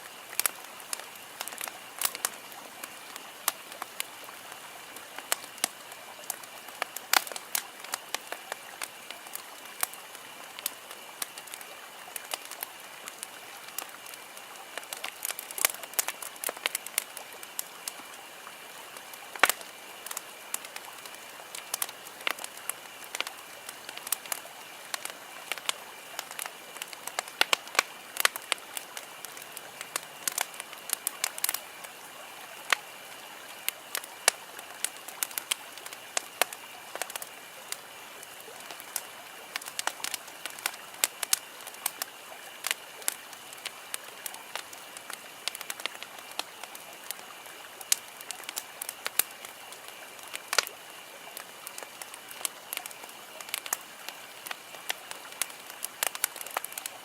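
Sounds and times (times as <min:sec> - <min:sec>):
campfire crackling and popping: 0:00.0 - 0:57.0
fire soft hiss: 0:00.0 - 0:57.0.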